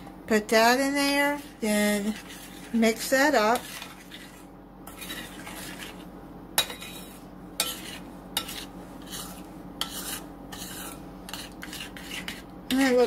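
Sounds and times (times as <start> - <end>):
spoon scraping glass bowl: 1.4 - 13.0.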